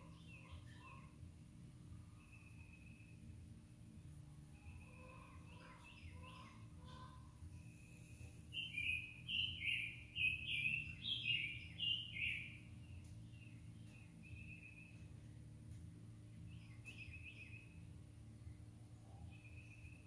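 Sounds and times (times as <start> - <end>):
bird chirping: 0.0 - 1.2, 1.9 - 3.5, 4.4 - 20.0
faint low hum: 0.0 - 20.0.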